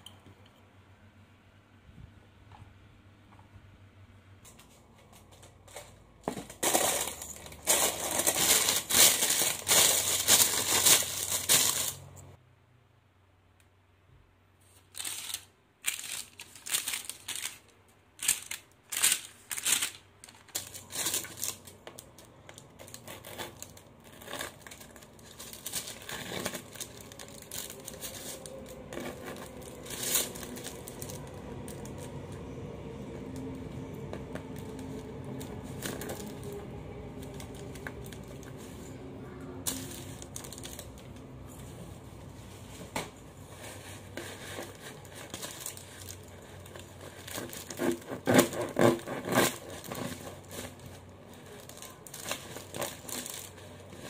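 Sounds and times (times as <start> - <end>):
baking paper crinkling: 4.5 - 12.4, 14.6 - 54.0.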